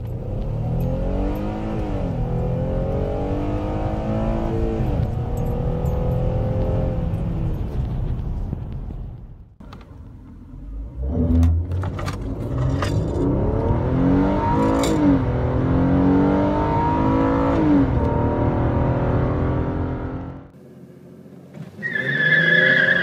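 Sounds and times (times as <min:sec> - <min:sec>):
car engine accelerating hard: 0:00.0 - 0:08.2, 0:10.2 - 0:20.5.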